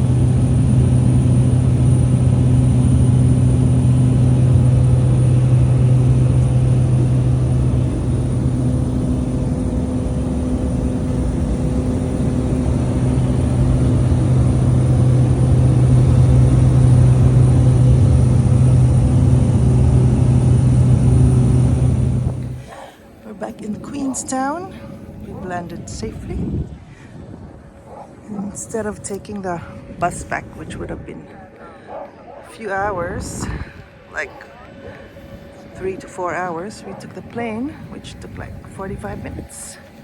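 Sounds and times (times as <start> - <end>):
propeller aircraft engine droning: 0.0 - 40.0.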